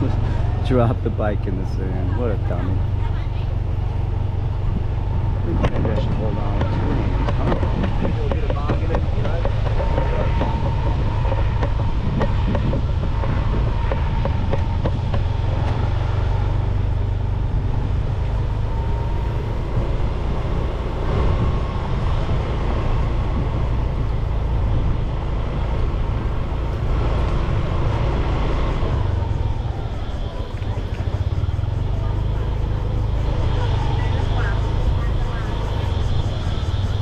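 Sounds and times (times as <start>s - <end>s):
motorbike engine running: 0.0s - 37.0s
wind rumble on microphone: 0.0s - 37.0s.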